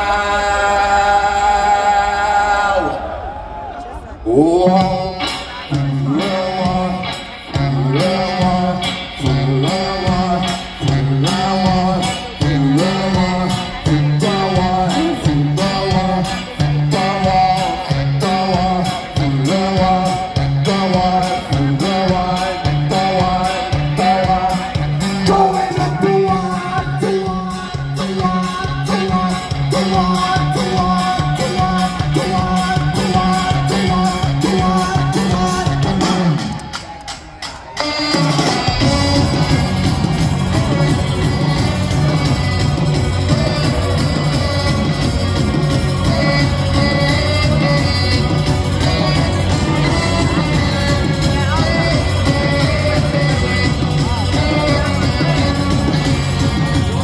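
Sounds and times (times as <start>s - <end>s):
person singing: 0.0s - 3.2s, 4.2s - 57.0s
live rock band: 0.0s - 57.0s
steady drums: 0.0s - 57.0s
low bass riff: 4.3s - 36.4s, 38.1s - 57.0s.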